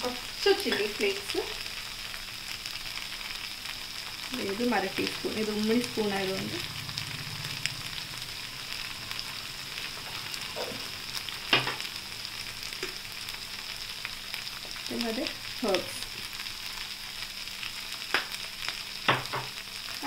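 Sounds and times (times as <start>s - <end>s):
sauce sizzling in frying pan: 0.0s - 20.0s.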